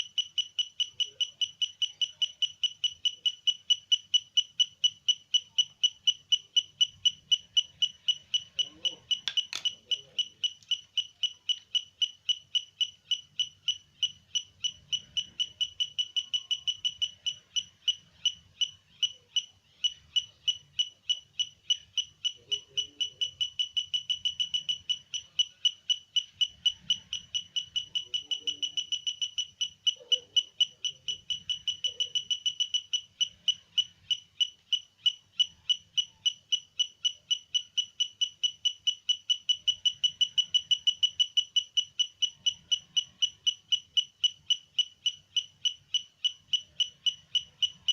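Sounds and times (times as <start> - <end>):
metal detector buzzer beeping: 0.0 - 47.9.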